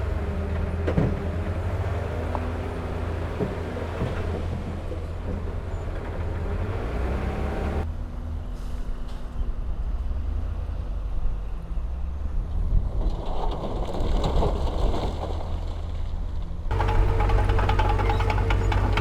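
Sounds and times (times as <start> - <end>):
diesel machinery engine rumble: 0.0 - 13.0, 15.4 - 19.0.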